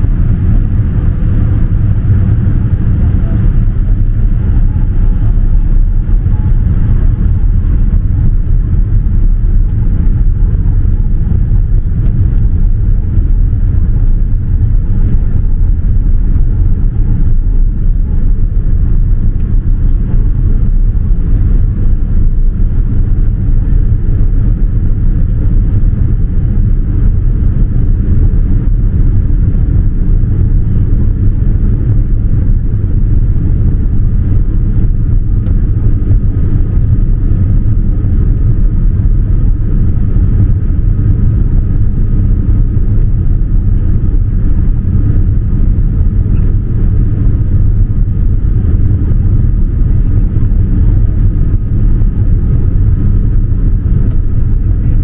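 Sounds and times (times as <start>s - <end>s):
airliner cabin engine rumble: 0.0s - 55.0s
faint steady whine: 0.0s - 55.0s.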